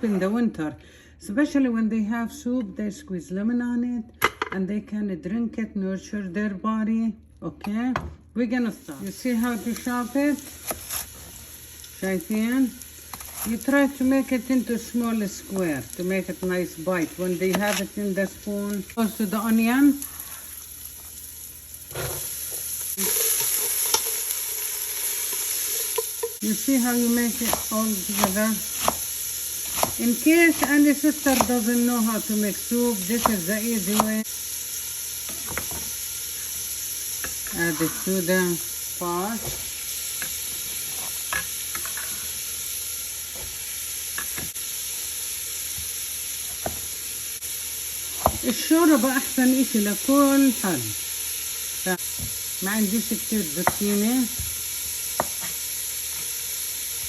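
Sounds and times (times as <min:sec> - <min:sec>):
vegetables sizzling in oil: 0:08.7 - 0:57.0.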